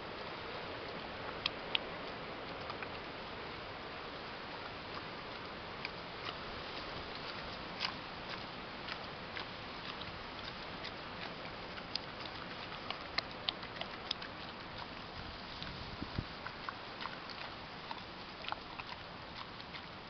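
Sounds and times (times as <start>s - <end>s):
pig chewing clicks: 0.1s - 20.0s.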